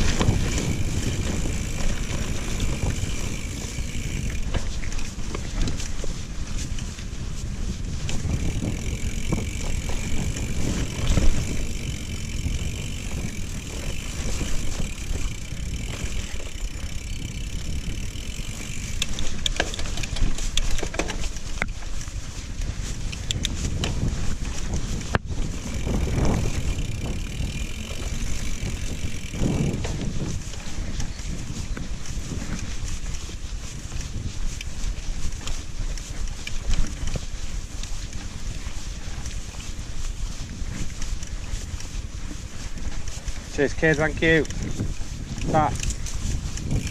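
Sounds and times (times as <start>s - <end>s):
bike chain and frame rattling: 0.0s - 46.9s
bike tyres rumbling on dirt: 0.0s - 46.9s
wind buffeting microphone: 0.0s - 46.9s.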